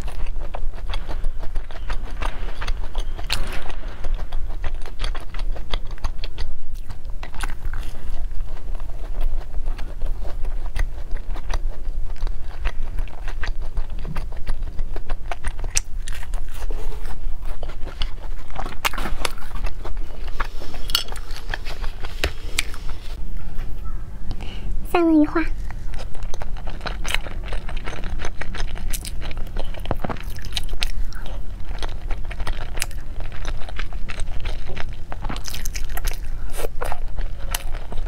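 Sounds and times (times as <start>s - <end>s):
chewing crisp pastry: 0.0s - 24.4s, 25.0s - 38.0s.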